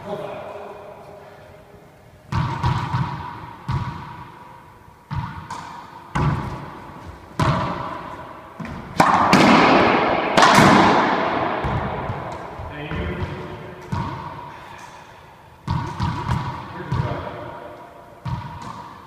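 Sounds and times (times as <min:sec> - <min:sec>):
racquetball hits echoing: 0:02.3 - 0:19.0.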